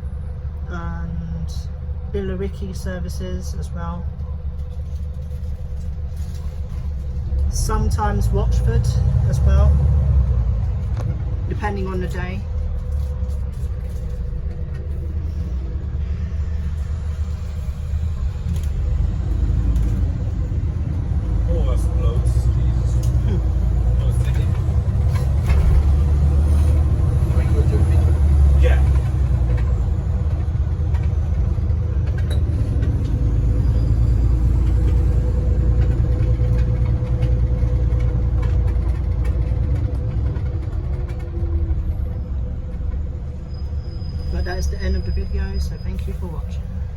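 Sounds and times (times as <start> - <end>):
bus engine and road rumble: 0.0 - 46.9.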